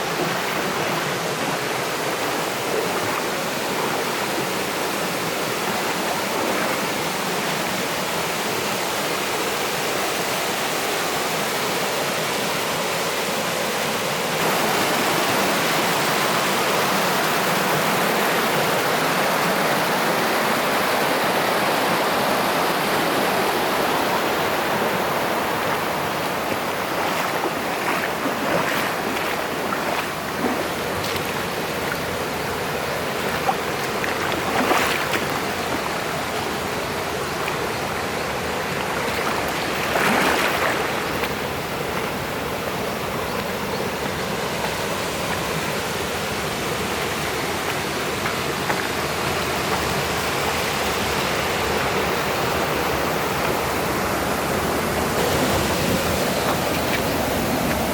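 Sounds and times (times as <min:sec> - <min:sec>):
water splashes: 0:00.0 - 0:10.1, 0:13.8 - 0:57.9
stream rushing over rocks: 0:00.0 - 0:57.9.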